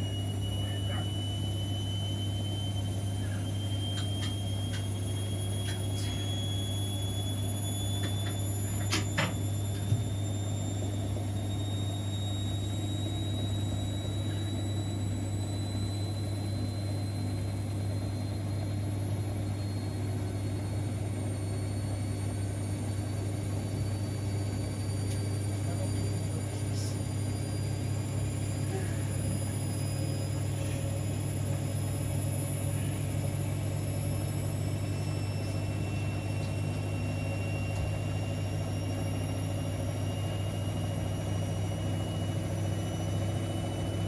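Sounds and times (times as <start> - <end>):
high rising whine: 0.0 - 44.0
washing machine humming: 0.0 - 44.0.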